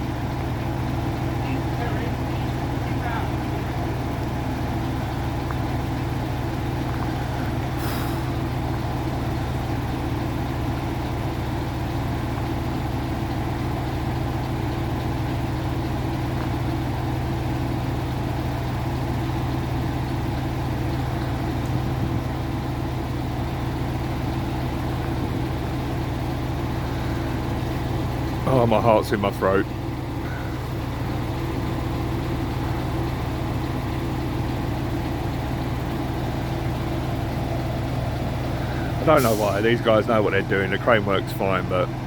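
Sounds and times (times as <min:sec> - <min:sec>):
crane engine droning: 0:00.0 - 0:42.0.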